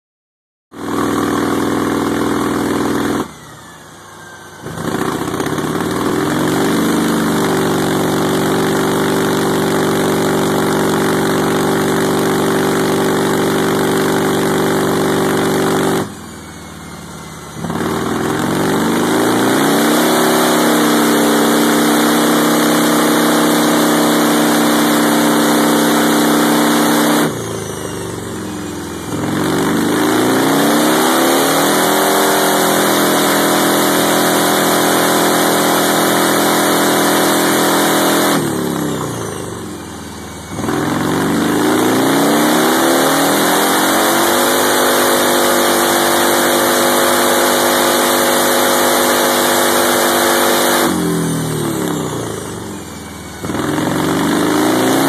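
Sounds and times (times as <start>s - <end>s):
motorcycle engine revving: 0.7s - 55.0s.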